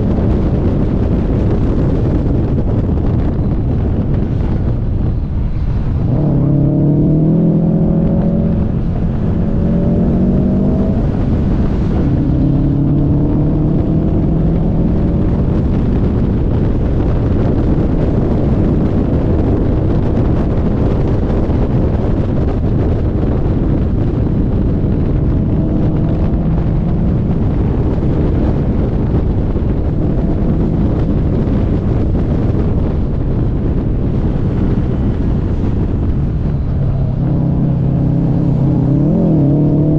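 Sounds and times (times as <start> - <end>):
tyre and wind noise: 0.0 - 39.9
car engine revving: 5.3 - 39.9.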